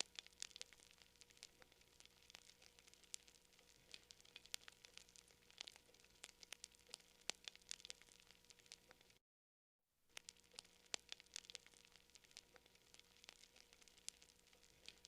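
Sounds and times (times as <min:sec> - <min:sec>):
campfire crackling: 0:00.0 - 0:09.2, 0:10.1 - 0:15.0.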